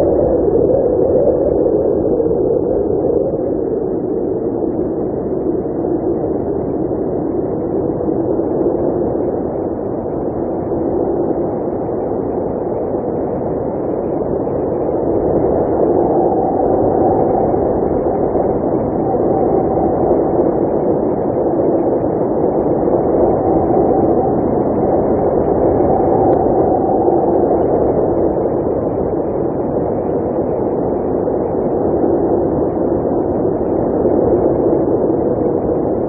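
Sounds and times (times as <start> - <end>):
blizzard wind howling: 0.0 - 36.0.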